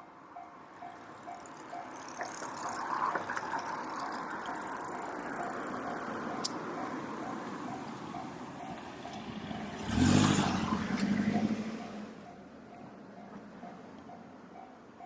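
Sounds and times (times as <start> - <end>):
passing train running noise: 0.0 - 15.0.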